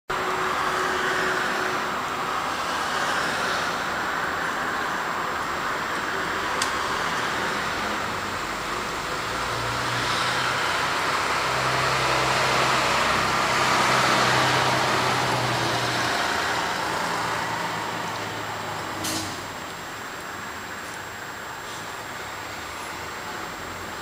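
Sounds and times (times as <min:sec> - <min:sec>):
vehicle engine and road noise: 0:00.1 - 0:24.0.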